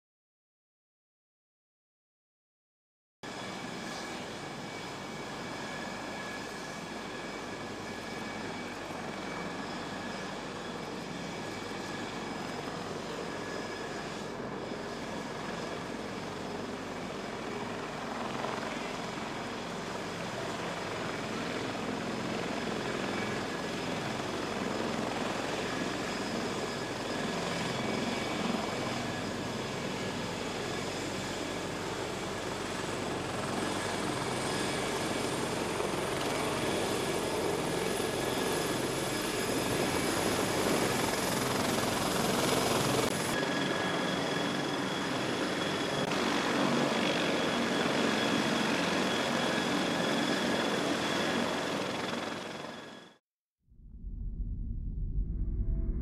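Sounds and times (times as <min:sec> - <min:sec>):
helicopter engine whine: 0:03.3 - 0:53.2, 0:53.8 - 0:56.0
helicopter rotor rush: 0:03.3 - 0:53.2.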